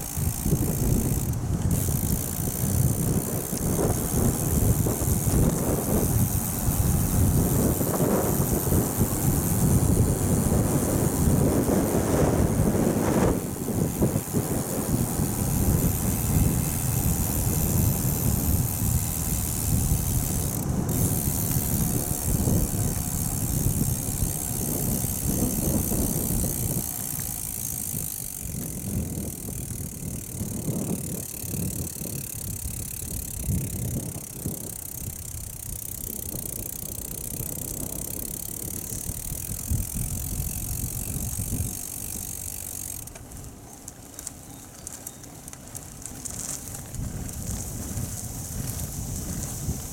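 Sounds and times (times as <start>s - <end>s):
tyre noise on road: 0.0s - 49.9s
wind buffeting microphone: 0.0s - 49.9s.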